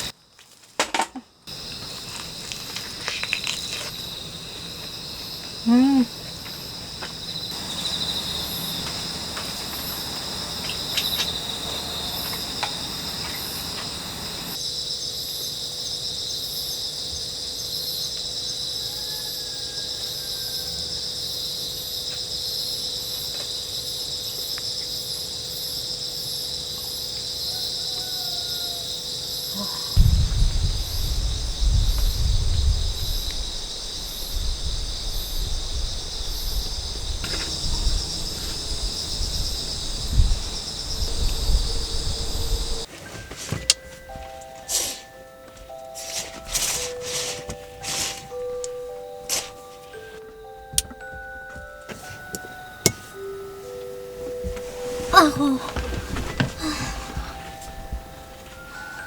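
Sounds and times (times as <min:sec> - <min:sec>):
insects chirring: 0:00.0 - 0:42.9, 0:43.6 - 0:59.0.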